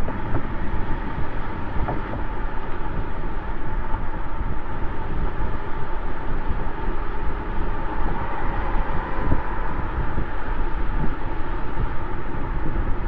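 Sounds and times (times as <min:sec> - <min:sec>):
exhaust low rumble: 0:00.0 - 0:13.0
road and wind noise: 0:00.0 - 0:13.0.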